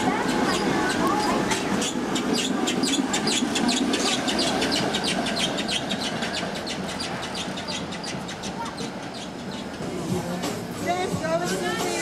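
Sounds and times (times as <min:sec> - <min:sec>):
streetcar rumbling past: 0:00.0 - 0:12.0.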